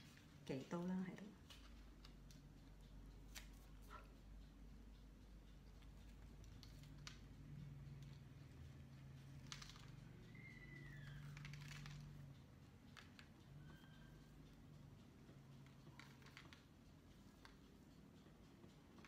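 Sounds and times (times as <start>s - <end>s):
light ticks: 0.0s - 19.0s.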